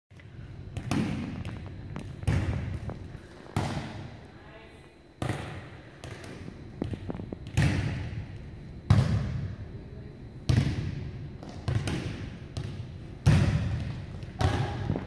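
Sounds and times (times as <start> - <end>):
volleyballs smacking on gym floor: 0.7 - 4.2, 5.2 - 9.5, 10.5 - 15.0.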